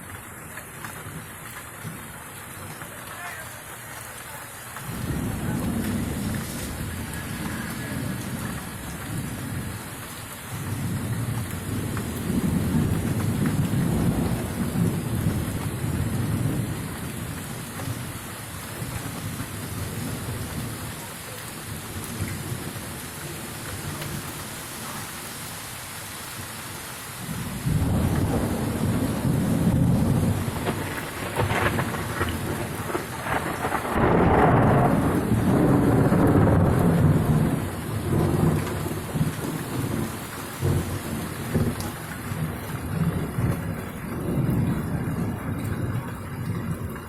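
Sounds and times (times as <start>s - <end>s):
steady rain: 0.0s - 47.0s
rolling thunder: 4.8s - 24.4s, 27.2s - 47.0s.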